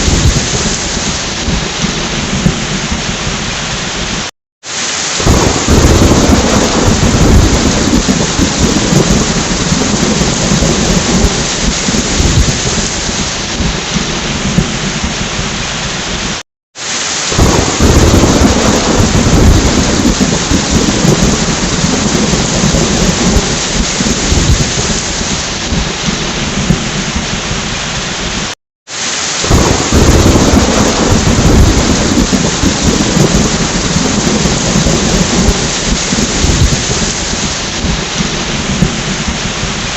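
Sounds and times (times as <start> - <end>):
rolling thunder: 0.0 - 4.3, 5.2 - 16.4, 17.3 - 28.6, 29.4 - 39.9
heavy rain: 0.0 - 39.9.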